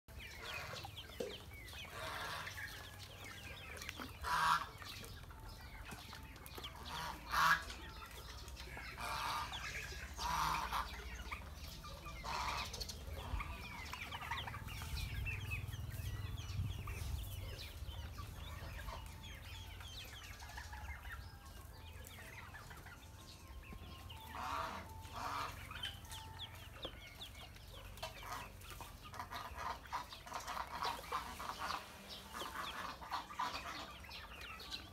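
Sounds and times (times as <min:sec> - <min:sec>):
ducklings peeping: 0:00.1 - 0:34.9.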